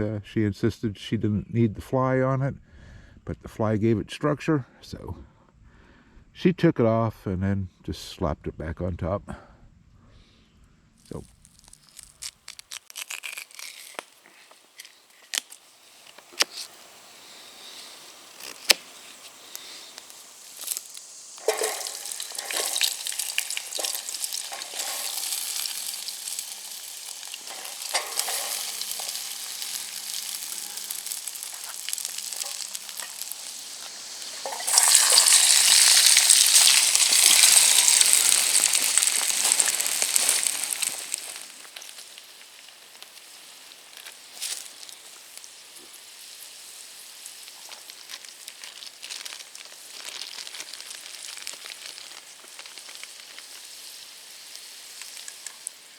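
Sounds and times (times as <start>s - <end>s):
crackles: 11.0s - 55.9s
food sizzling in a pan: 11.1s - 55.9s.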